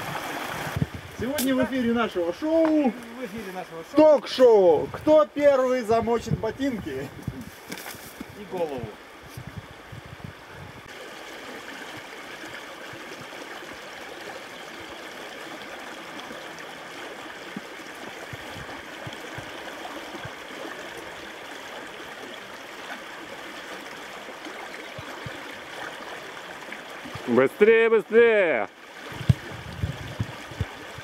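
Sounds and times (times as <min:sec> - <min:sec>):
river stream rushing: 0:00.0 - 0:04.7, 0:10.9 - 0:31.0.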